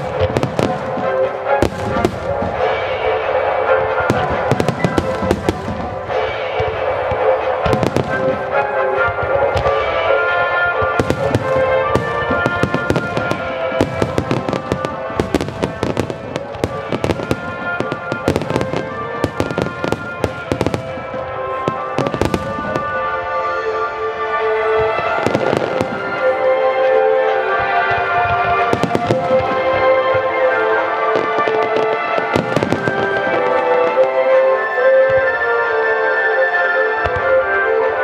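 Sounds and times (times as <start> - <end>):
fireworks bursting and crackling: 0.0 - 35.4
orchestral music: 0.0 - 38.0.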